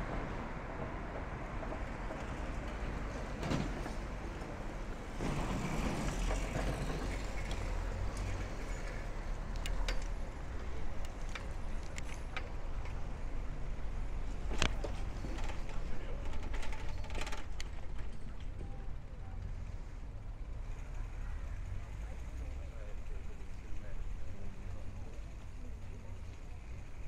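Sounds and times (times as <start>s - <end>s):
street traffic rumble: 0.0s - 27.0s
vehicles passing: 0.0s - 27.0s.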